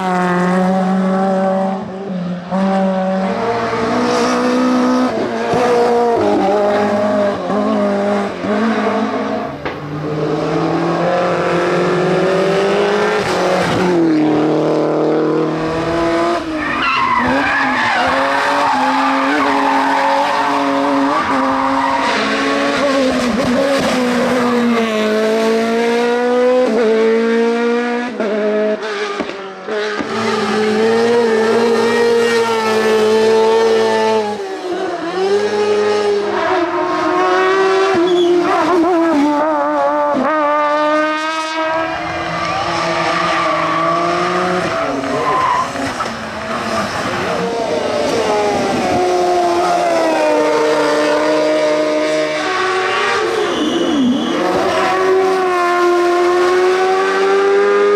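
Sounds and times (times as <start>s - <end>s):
racing car engines revving: 0.0s - 57.9s.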